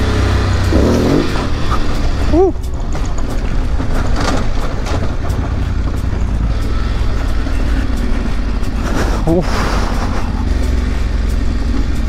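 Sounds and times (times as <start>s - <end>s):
motorcycle engine running: 0.0s - 12.0s
wind and tyre rumble: 0.0s - 12.0s.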